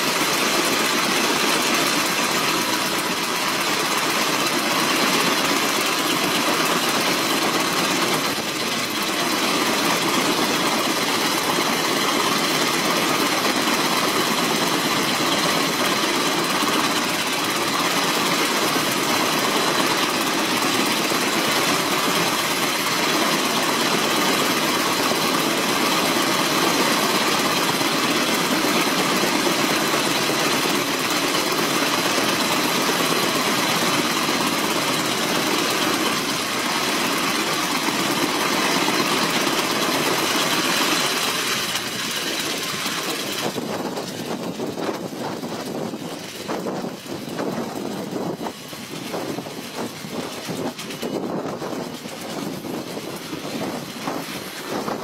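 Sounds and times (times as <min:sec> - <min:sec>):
helicopter engine and rotors: 0:00.0 - 0:55.0.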